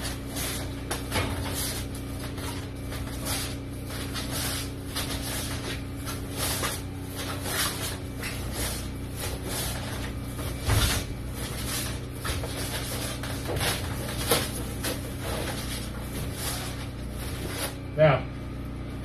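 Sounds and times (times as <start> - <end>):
bump against garage door: 0.0 - 17.6
foam panel rustling against foil: 0.0 - 17.9.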